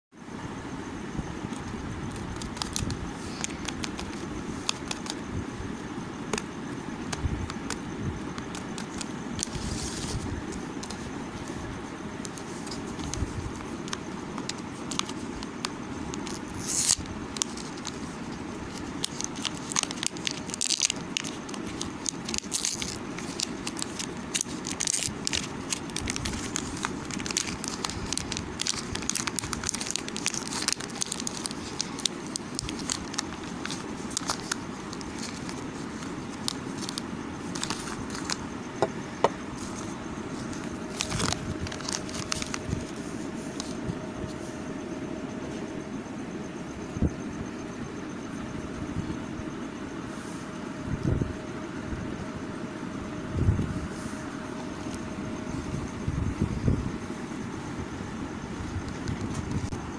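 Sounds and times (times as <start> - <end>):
low background rumble: 0.4 - 59.9.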